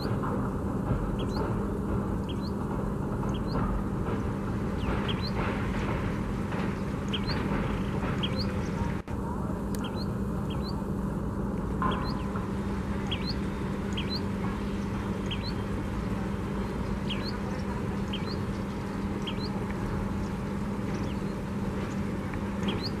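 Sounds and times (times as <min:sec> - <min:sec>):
distant train humming: 0:00.0 - 0:23.0
bird chirping: 0:01.1 - 0:01.6, 0:02.2 - 0:05.6, 0:06.5 - 0:08.9, 0:09.8 - 0:10.8, 0:11.8 - 0:23.0.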